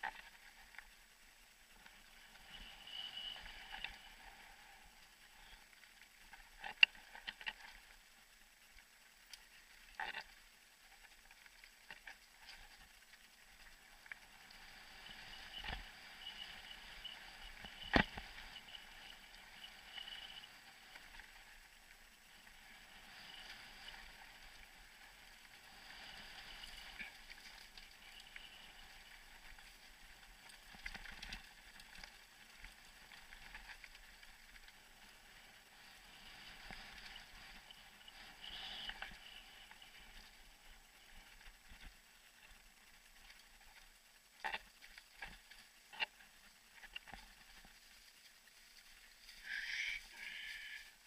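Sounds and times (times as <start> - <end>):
bike drivetrain and tyres rattling: 0.0 - 50.2.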